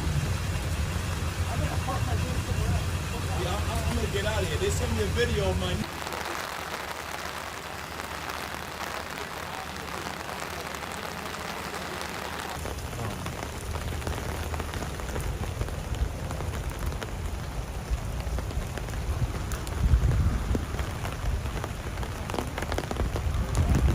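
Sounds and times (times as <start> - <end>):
rain pattering on hard surfaces: 0.0 - 23.9.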